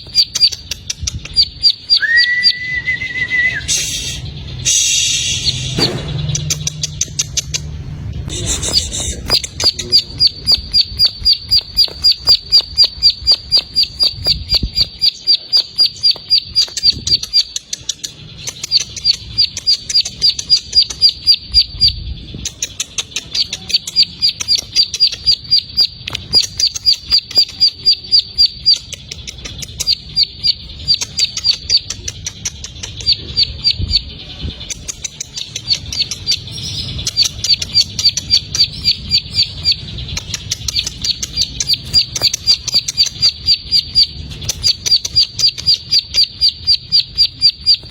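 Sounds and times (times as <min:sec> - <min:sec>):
bird singing rapid high chips: 0:00.0 - 0:47.9.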